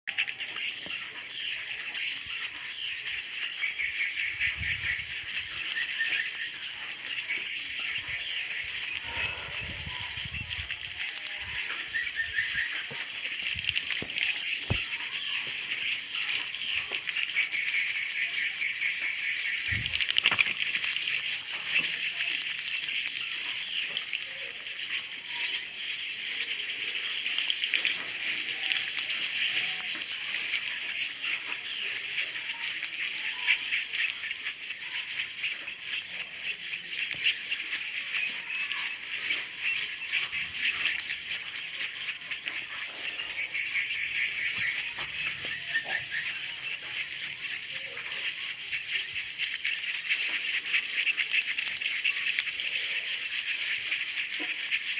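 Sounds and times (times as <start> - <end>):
fast continuous clicking: 0.0 - 54.9
swiftlets twittering: 0.0 - 54.9.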